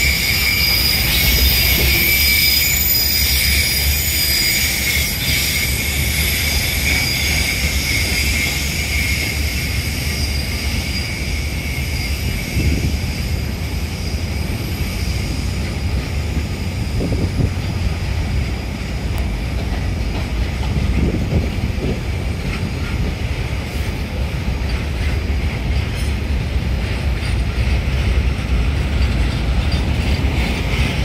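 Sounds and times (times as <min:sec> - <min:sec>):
freight wagons rumbling on track: 0:00.0 - 0:31.0.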